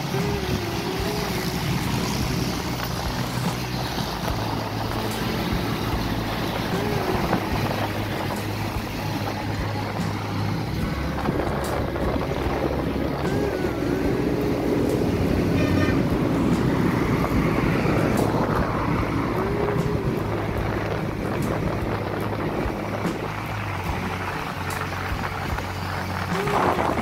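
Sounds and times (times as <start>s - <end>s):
low engine hum: 0.0s - 27.0s
road traffic: 0.0s - 27.0s
wind on microphone: 0.0s - 27.0s.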